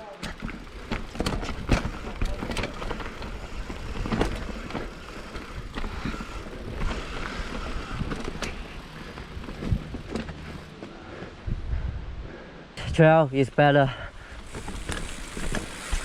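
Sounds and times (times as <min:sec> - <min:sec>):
bike knocking and rattling: 0:00.0 - 0:11.4, 0:14.2 - 0:16.0
bike tyres rolling on dirt: 0:00.0 - 0:11.6, 0:12.9 - 0:16.0.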